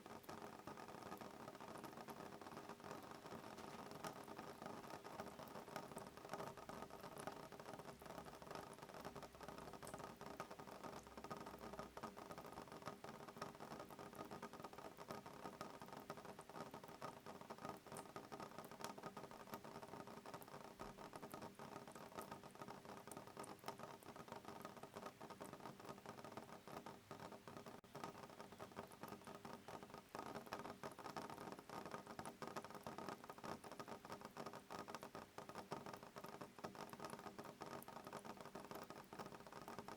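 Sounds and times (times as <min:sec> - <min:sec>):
rain pattering on window: 0:00.0 - 0:39.9.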